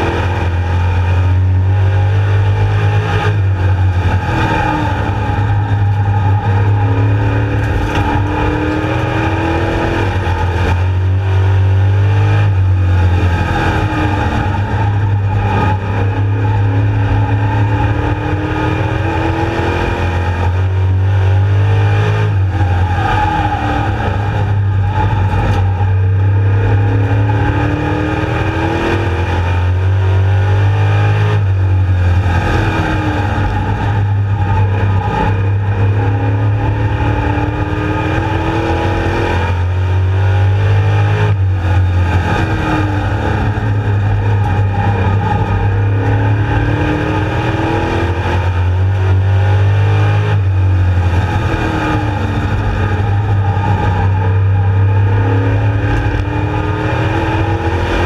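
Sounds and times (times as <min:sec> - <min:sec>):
race car engine accelerating: 0:00.0 - 0:58.0
wind and road noise: 0:00.0 - 0:58.0.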